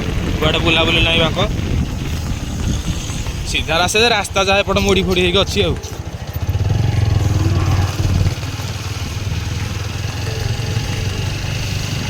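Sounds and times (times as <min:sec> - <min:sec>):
road and wind noise: 0:00.0 - 0:12.0
vehicle engine running: 0:00.0 - 0:12.0.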